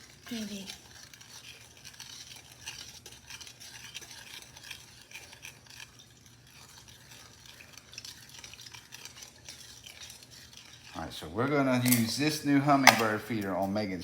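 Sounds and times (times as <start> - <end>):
utensil scraping container: 0.0 - 14.0.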